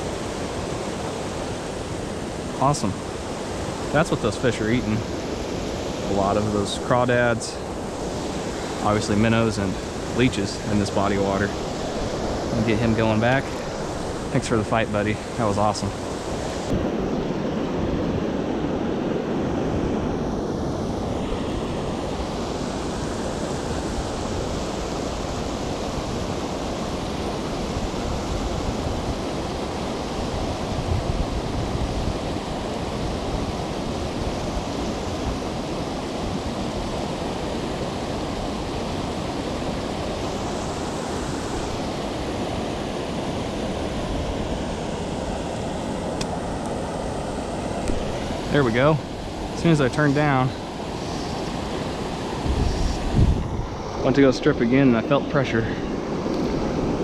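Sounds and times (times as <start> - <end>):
creek water rushing: 0.0 - 57.0
wind rumbling on microphone: 0.0 - 57.0.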